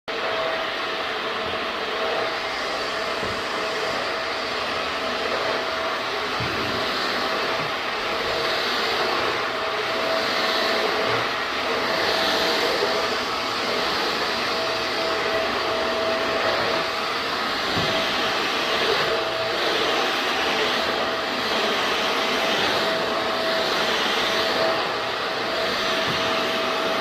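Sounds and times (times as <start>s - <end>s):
vacuum cleaner running: 0.1s - 27.0s.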